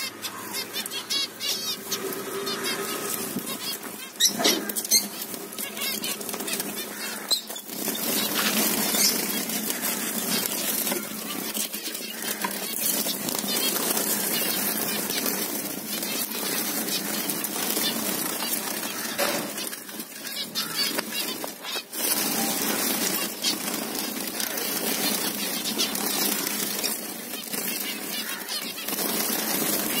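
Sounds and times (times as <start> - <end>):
finches chattering: 0.0 - 30.0
wings fluttering: 0.0 - 30.0.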